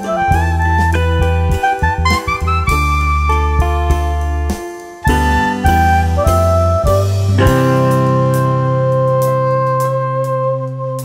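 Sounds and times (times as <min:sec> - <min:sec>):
held chord background music: 0:00.0 - 0:11.0.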